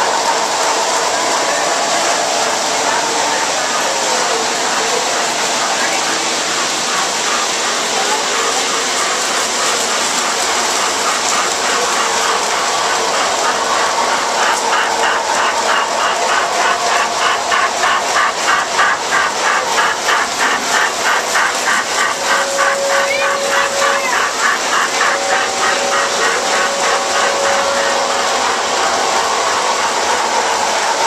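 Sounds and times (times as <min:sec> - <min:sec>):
faint steady tones: 0:00.0 - 0:31.0
model train mechanical whir: 0:00.0 - 0:31.0
roller coaster lift clicking: 0:00.0 - 0:31.0.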